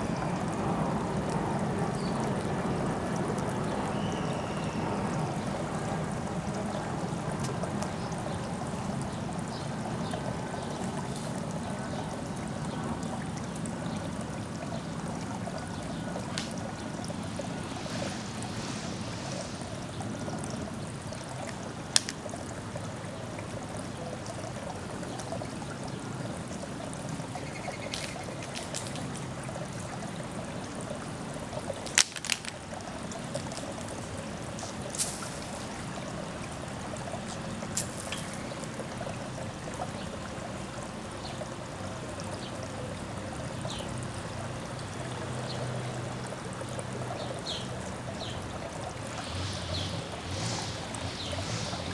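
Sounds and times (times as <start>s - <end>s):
water trickling: 0.0s - 51.9s.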